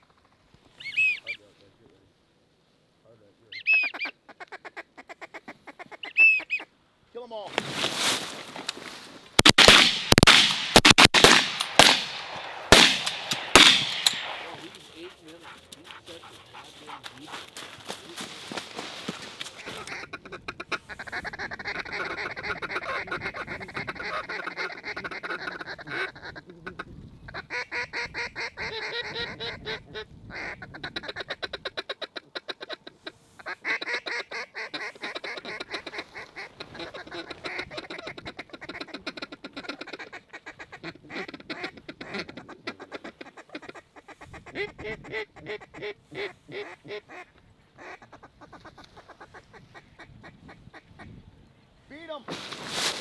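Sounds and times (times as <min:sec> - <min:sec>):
duck calls quacking: 0:03.5 - 0:06.7, 0:11.2 - 0:51.2.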